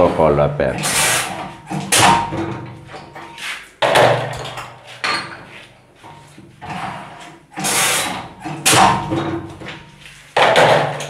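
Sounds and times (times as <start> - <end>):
metal lever clanks: 0.8 - 5.5, 6.1 - 11.0.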